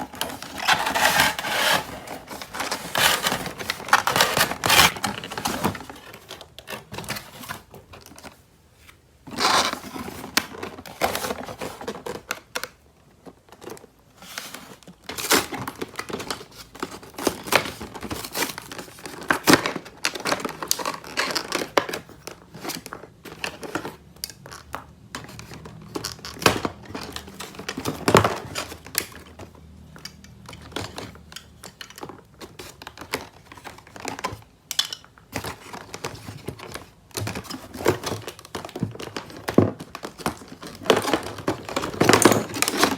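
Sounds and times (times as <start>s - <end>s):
packaging crinkling and tearing: 0.0s - 8.4s, 13.4s - 34.5s, 35.4s - 42.9s
packaging rustling: 0.0s - 34.5s, 35.3s - 42.9s.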